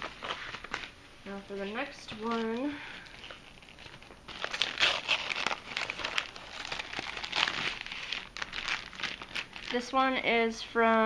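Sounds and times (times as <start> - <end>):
packaging crinkling and rustling: 0.0 - 1.0, 1.7 - 10.2.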